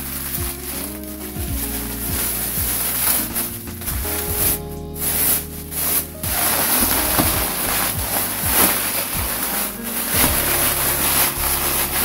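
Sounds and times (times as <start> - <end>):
plastic bag and seaweed crinkling: 0.0 - 12.0.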